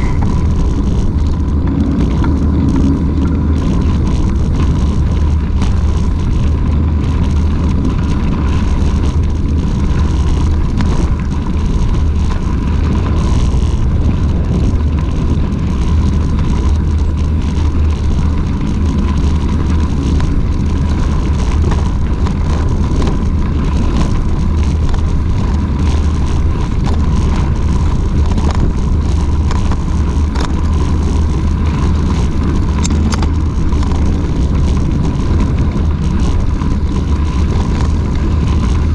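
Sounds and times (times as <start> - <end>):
bike rattles: 0.0 - 38.9
wind buffeting microphone: 0.0 - 38.9.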